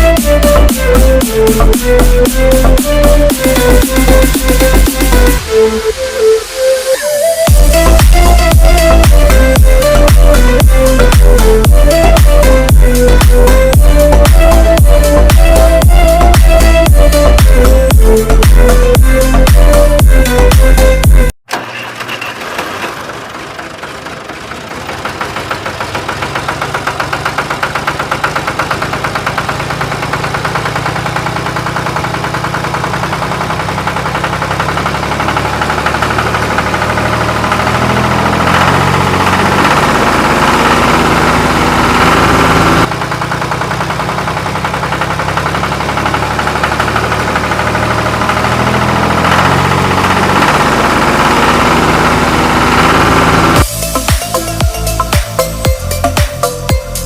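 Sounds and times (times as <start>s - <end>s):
engine knocking: 0.0s - 5.5s, 7.5s - 57.0s.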